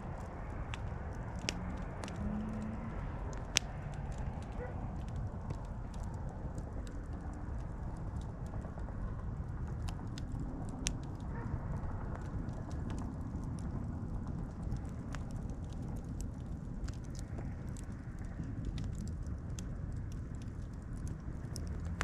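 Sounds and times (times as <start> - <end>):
bonfire burning: 0.0 - 22.0
fire crackles and pops: 0.0 - 22.0.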